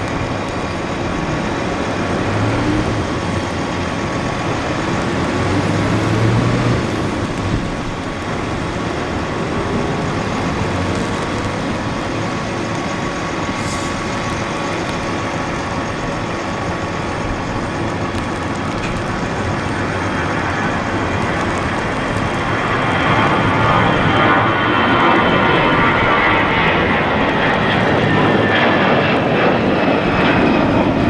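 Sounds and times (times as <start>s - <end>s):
jet engines roaring with whine: 0.0s - 31.0s.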